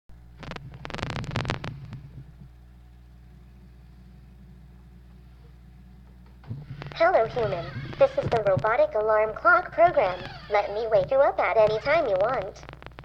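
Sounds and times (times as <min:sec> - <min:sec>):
low hum with fixed tones: 0:00.1 - 0:13.0.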